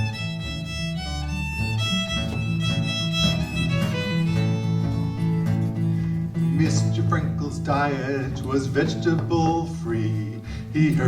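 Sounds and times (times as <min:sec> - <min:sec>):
acoustic folk band playing: 0:00.0 - 0:11.0.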